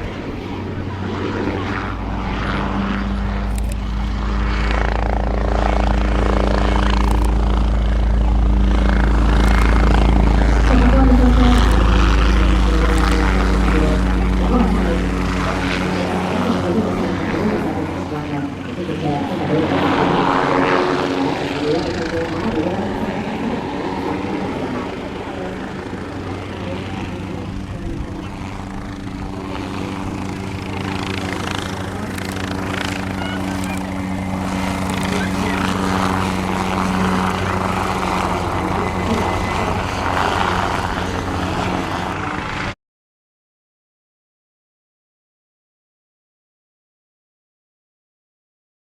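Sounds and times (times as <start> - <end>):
aircraft engine and rotor drone: 0.0 - 42.8.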